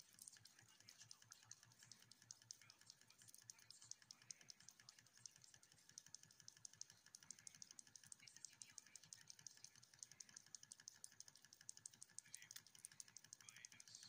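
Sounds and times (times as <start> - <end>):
model steam engine ticking: 0.0 - 14.0.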